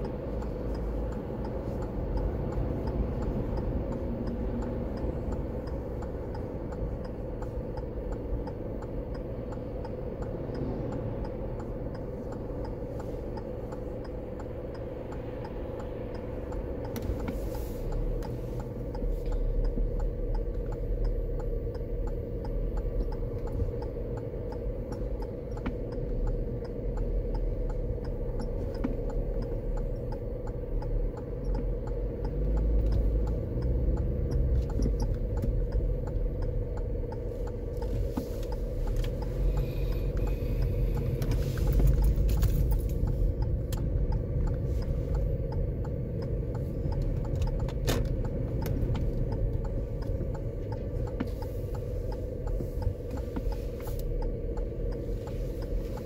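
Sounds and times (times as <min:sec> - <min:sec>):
car engine idling: 0:00.0 - 0:56.0
low hum and rumble: 0:00.0 - 0:56.0
turn signal ticking: 0:00.0 - 0:56.0.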